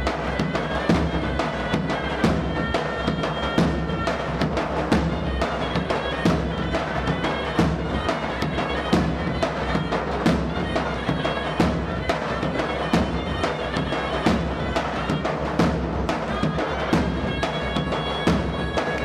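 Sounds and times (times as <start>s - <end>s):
drum beat: 0.0s - 19.0s
reed wind instrument melody: 0.0s - 19.0s.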